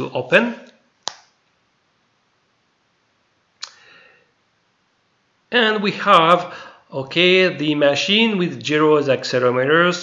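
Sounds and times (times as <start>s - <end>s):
faint room hiss: 0.0s - 10.0s.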